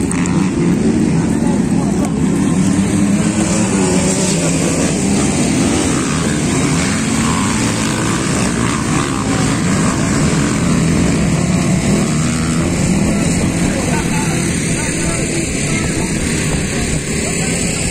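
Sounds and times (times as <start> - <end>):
dirt bike engines revving: 0.0 - 17.9.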